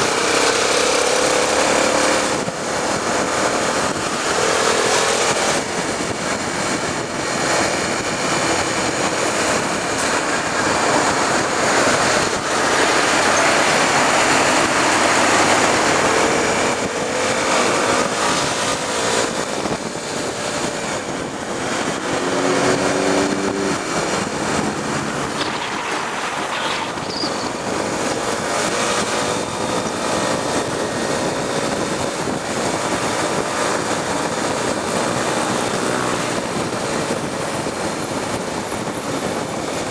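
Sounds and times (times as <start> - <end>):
motorcycle engine: 0.0 - 38.2
traffic noise: 0.0 - 39.9
wind rush over microphone: 0.0 - 39.9.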